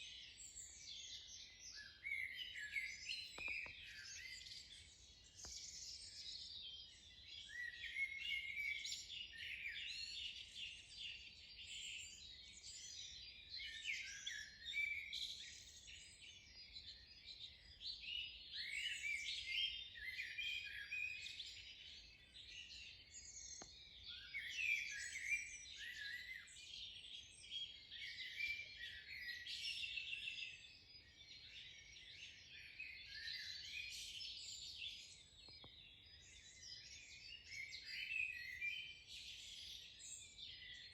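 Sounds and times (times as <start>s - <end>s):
small birds singing: 0.0s - 40.9s.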